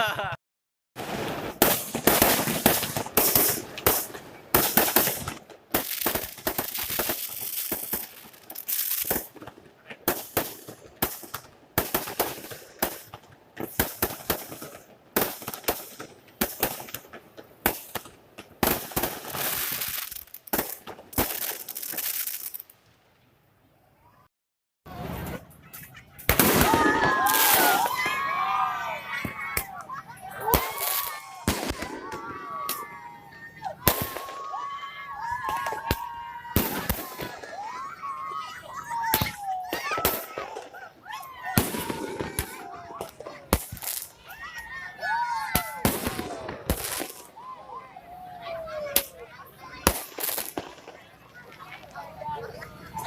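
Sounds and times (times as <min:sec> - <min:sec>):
fireworks bangs and crackles: 0:01.0 - 0:22.9, 0:25.0 - 0:53.0.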